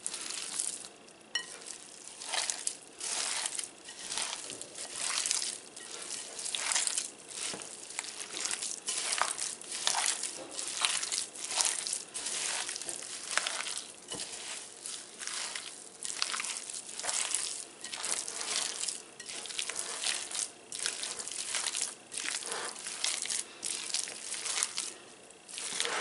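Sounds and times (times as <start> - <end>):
hands squeezing raw meat mix: 0.0 - 26.0.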